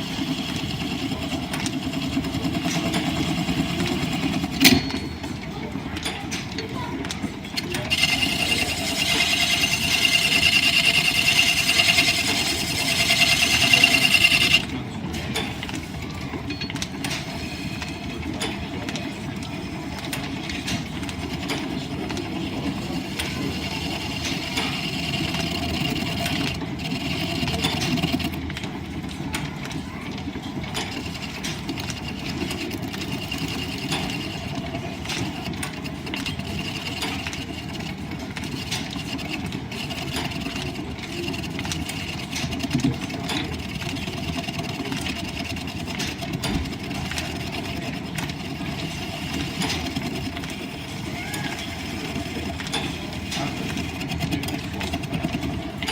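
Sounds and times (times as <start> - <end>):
turning tool cutting spinning wood: 0.0 - 5.4, 7.6 - 14.8, 16.7 - 28.7, 30.2 - 55.9
wood lathe and belting running: 0.0 - 55.9.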